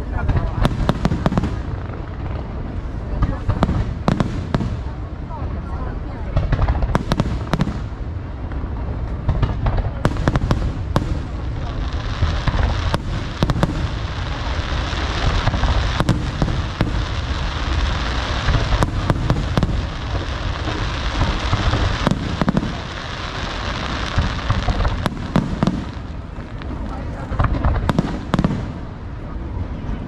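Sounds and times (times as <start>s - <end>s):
fireworks bangs: 0.0s - 29.6s
fireworks crackling: 0.0s - 30.0s
low rumble: 0.0s - 30.0s.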